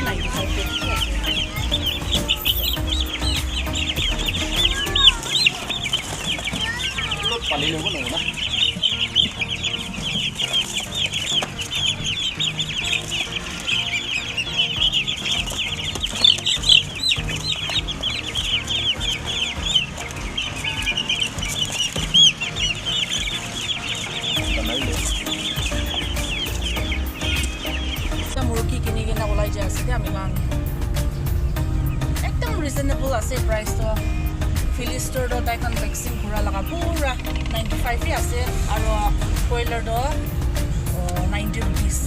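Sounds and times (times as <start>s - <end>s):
chicks peeping: 0.0s - 42.0s.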